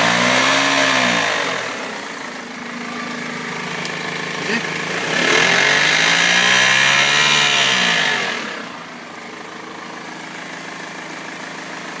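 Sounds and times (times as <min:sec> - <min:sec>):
diesel engine revving and idling: 0:00.0 - 0:12.0.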